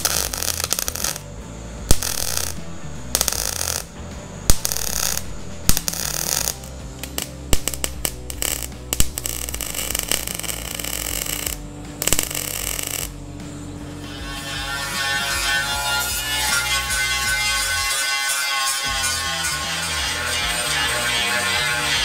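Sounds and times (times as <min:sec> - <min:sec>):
music: 0:00.0 - 0:22.0
welder crackling: 0:00.0 - 0:22.0.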